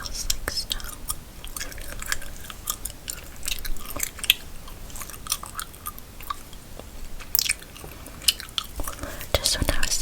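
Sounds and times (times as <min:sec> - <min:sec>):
gum chewing: 0:00.7 - 0:09.2.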